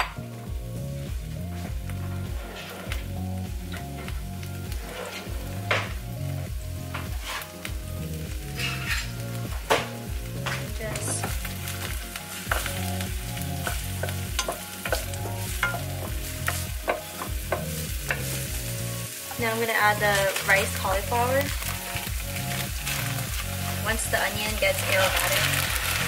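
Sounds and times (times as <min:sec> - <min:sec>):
background music: 0:00.0 - 0:26.0
onion sizzling in oil: 0:00.0 - 0:26.0.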